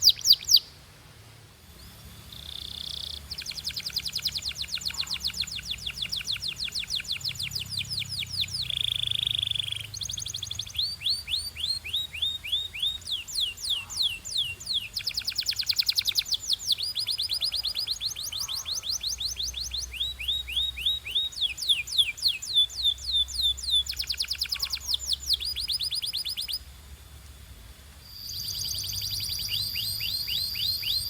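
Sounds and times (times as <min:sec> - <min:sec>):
canary singing: 0:00.0 - 0:00.8, 0:01.8 - 0:26.7, 0:28.1 - 0:31.0.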